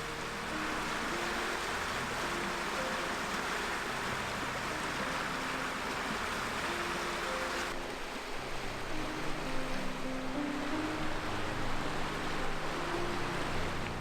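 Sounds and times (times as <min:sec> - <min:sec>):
faint background music: 0:00.0 - 0:14.0
stream water flowing: 0:00.0 - 0:14.0.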